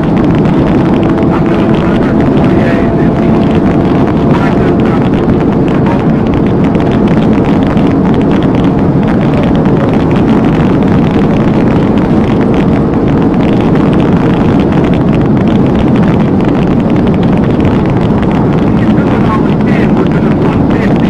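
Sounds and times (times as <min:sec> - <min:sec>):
road tyre and wind noise: 0:00.0 - 0:21.0.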